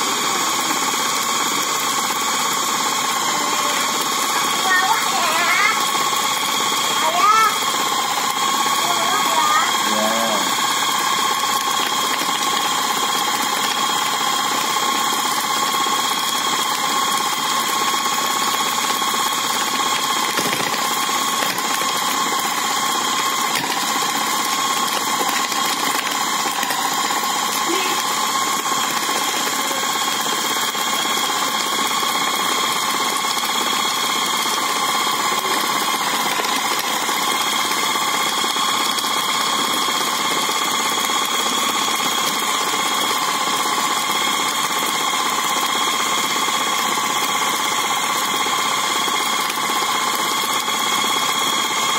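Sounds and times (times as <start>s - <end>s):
blade grinding meat: 0.0s - 51.9s
food chopper motor whining: 0.0s - 51.9s.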